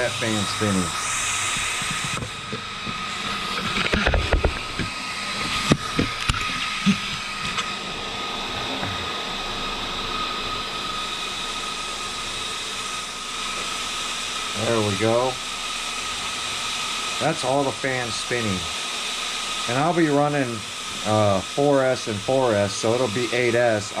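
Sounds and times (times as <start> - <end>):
small electric fans whirring: 0.0 - 24.0.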